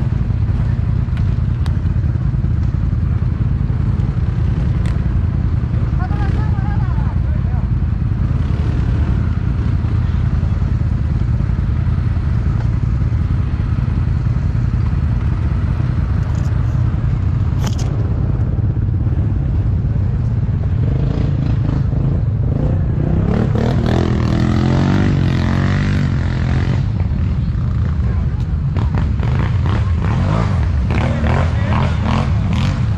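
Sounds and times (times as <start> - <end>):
atv engine running hard: 0.0 - 32.9.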